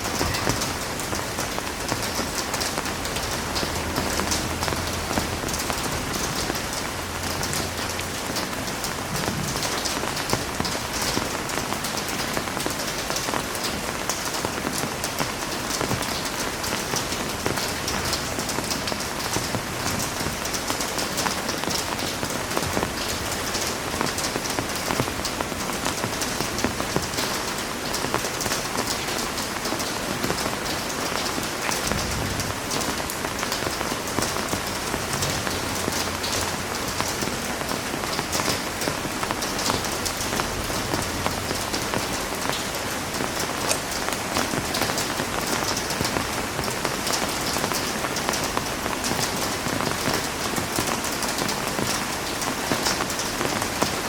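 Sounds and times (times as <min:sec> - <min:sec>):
heavy rain falling on a surface: 0:00.0 - 0:54.0.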